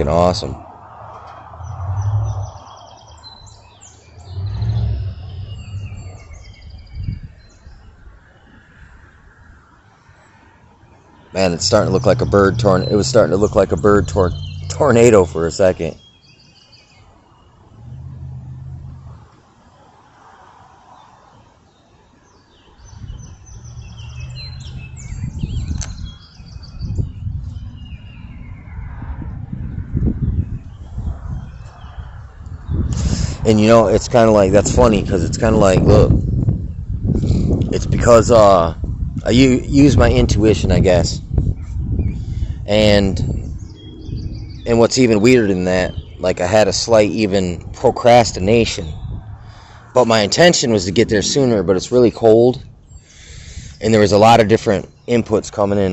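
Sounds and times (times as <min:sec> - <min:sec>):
low rumbles: 0:00.0 - 0:07.9, 0:11.3 - 0:16.0, 0:17.6 - 0:19.4, 0:22.8 - 0:55.9
small birds chirping: 0:01.4 - 0:08.7, 0:10.9 - 0:20.1, 0:20.9 - 0:29.0, 0:29.8 - 0:55.9.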